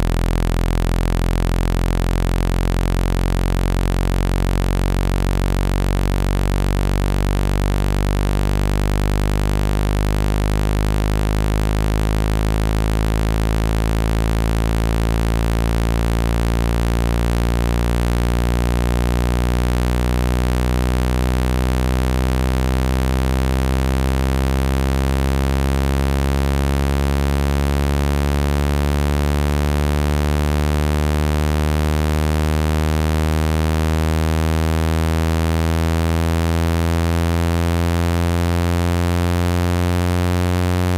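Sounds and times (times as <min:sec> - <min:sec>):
low electronic buzzing tone: 0:00.0 - 0:40.9.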